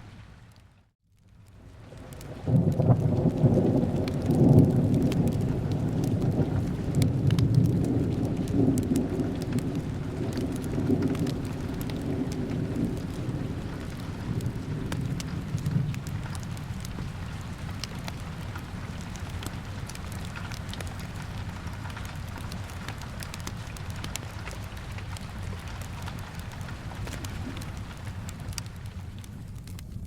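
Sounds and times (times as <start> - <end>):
rain: 0.0 - 30.0
raindrops ticking: 0.2 - 30.0
deep thunder rumble: 1.8 - 30.0.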